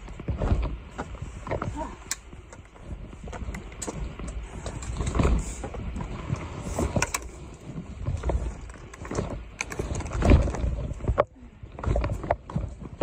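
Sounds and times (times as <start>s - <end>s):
footsteps on rock: 0.0s - 13.0s.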